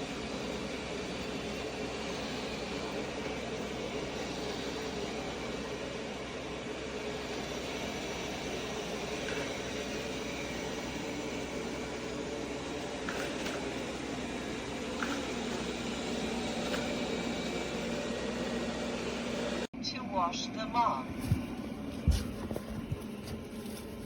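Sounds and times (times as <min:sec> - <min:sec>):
robot vacuum running: 0:00.0 - 0:19.7.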